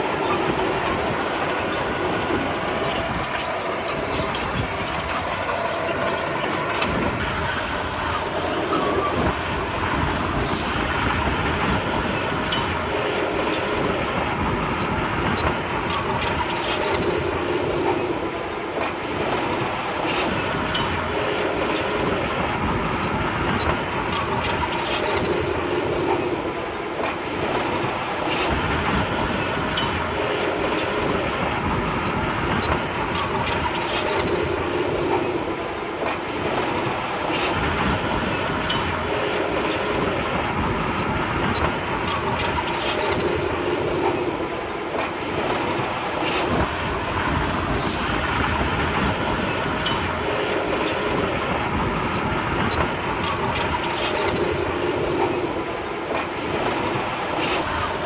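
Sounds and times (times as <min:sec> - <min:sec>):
bulldozer diesel engine running: 0:00.0 - 0:26.4, 0:27.4 - 0:58.0
metallic track clanks and rattles: 0:00.0 - 0:58.0.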